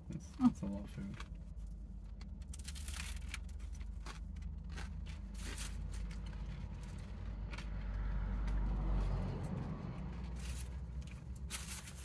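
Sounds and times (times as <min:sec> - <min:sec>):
faint clicks and rustles: 0:00.9 - 0:12.0.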